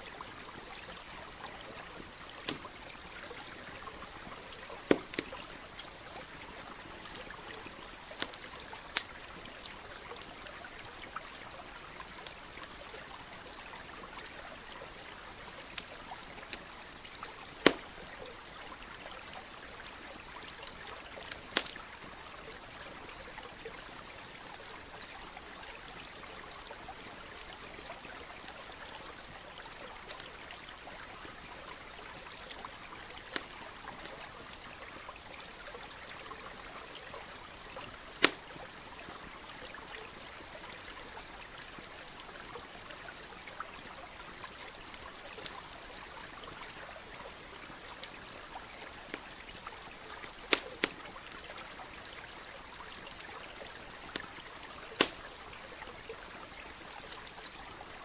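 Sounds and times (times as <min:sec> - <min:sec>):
campfire crackling: 0:00.0 - 0:58.0
stream running: 0:00.0 - 0:58.0.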